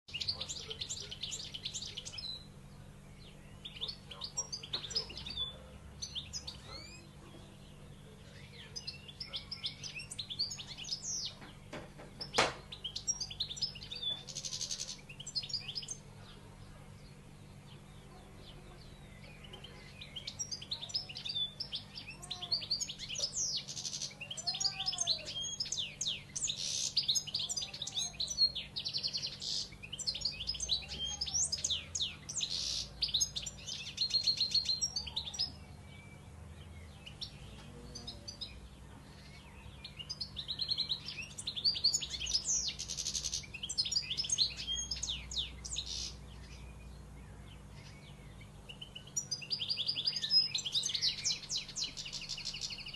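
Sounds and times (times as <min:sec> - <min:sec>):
lower-pitched bird calls: 0:00.0 - 0:52.9
small birds chirping: 0:00.0 - 0:52.9.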